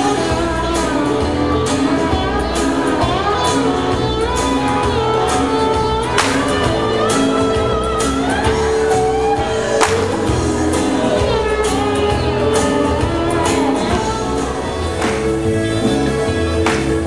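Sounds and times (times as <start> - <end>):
country band playing: 0.0 - 17.0
person singing: 0.0 - 17.0
steady drum beat: 0.0 - 17.0.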